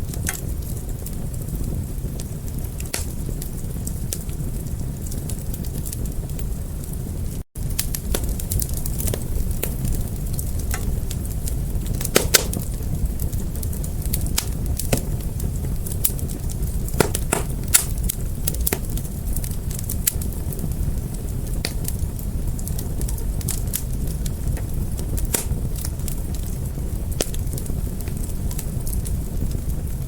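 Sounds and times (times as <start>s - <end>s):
fire crackling and popping: 0.0s - 30.0s
wood fire rumbling: 0.0s - 30.0s.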